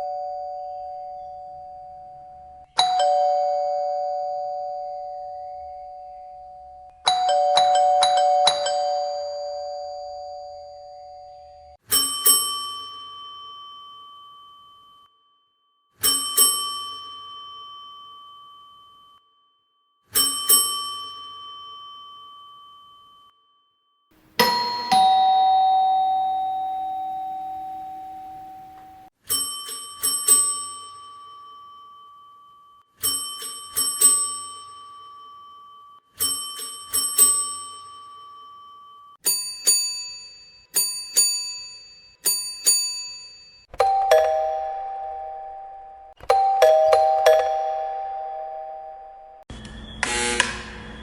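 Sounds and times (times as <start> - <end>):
doorbell chimes: 0.0 - 19.4, 20.1 - 49.5.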